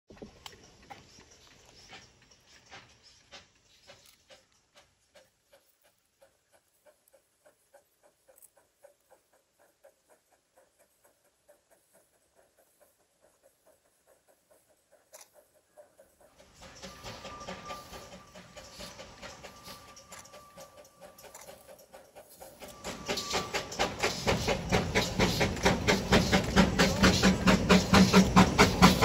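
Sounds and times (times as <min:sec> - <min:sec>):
distant steam locomotive chuffing: 0:00.4 - 0:29.0.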